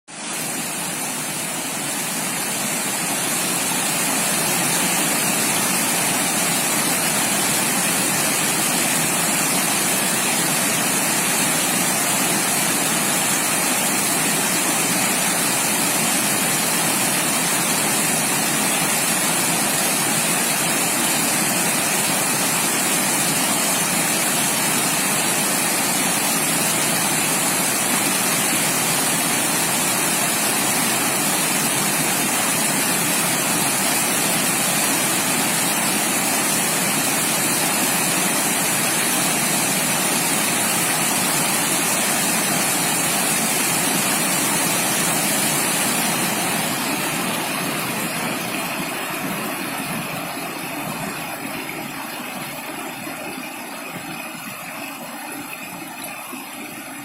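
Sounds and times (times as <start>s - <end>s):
rushing water: 0.1s - 57.0s.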